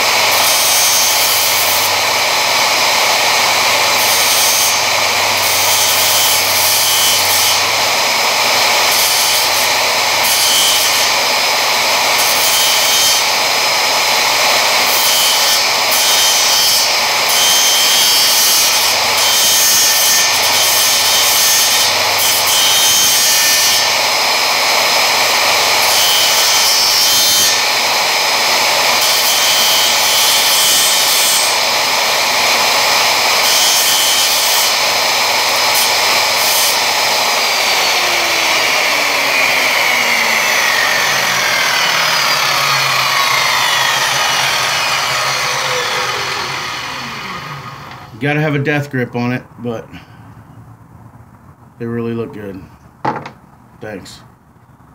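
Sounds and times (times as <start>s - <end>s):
circular saw cutting wood: 0.0s - 48.8s.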